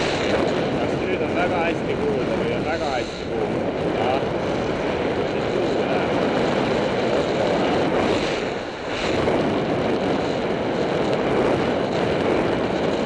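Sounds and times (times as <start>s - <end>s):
wind rushing on microphone: 0.0s - 13.0s.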